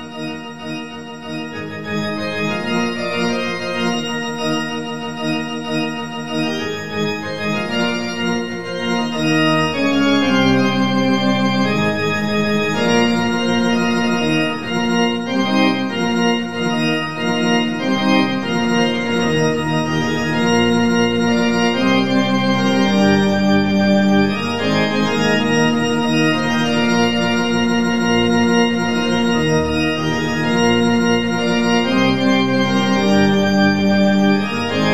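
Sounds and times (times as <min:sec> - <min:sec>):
organ playing chords: 0:00.0 - 0:34.9.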